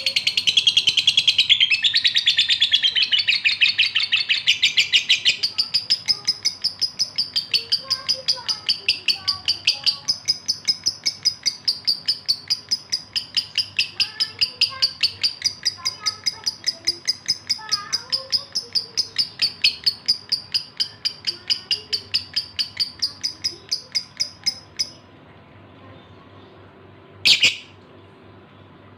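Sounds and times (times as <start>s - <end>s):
lovebird chirping: 0.0s - 25.1s, 27.2s - 27.8s.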